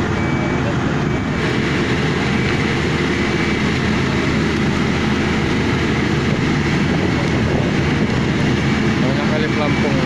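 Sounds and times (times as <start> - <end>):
heavy engine rumbling: 0.0 - 10.0.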